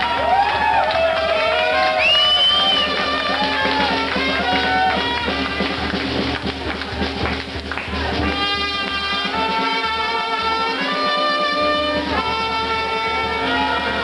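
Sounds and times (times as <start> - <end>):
small band playing live: 1.4 - 14.0.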